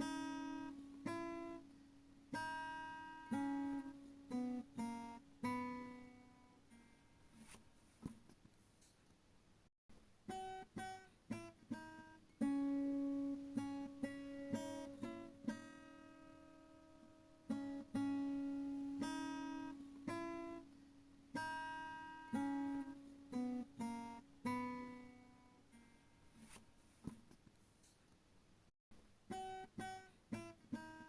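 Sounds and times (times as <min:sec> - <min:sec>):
plucked acoustic guitar: 0:00.0 - 0:08.2, 0:10.3 - 0:27.3, 0:29.3 - 0:31.0.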